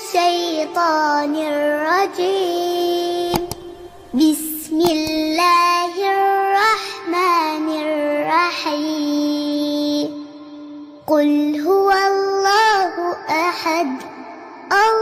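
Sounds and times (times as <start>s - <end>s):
high voice chanting recitation: 0.0s - 10.4s, 11.1s - 15.0s.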